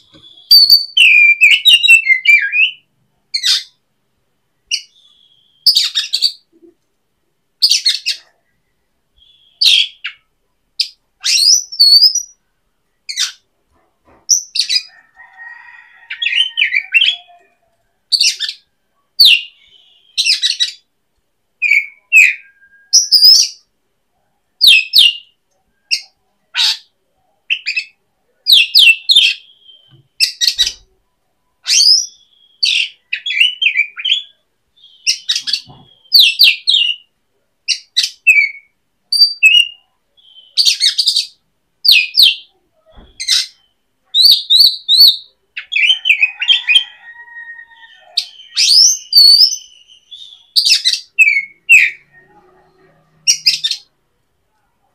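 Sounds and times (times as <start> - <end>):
bird chirping: 0.0 - 3.8, 4.6 - 6.8, 7.6 - 20.9, 21.6 - 54.9.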